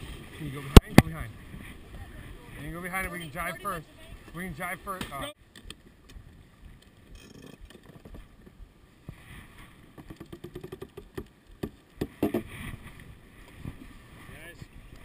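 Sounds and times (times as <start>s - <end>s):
wind and water rushing: 0.0s - 15.0s.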